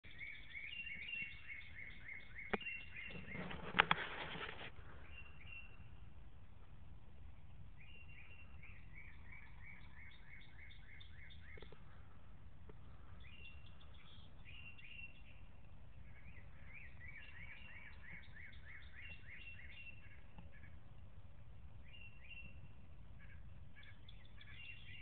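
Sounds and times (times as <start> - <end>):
songbird singing whistled notes: 0.0 - 3.9, 4.9 - 6.1, 7.6 - 12.1, 12.7 - 20.8, 21.7 - 25.0
low steady rumble: 0.0 - 25.0.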